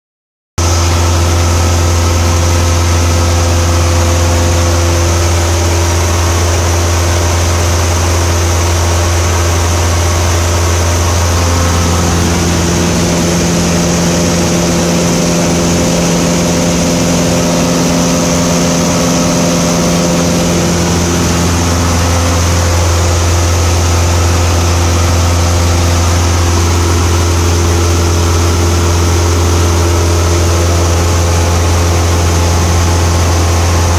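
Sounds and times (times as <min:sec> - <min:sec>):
light aircraft engine droning: 0:00.6 - 0:33.9.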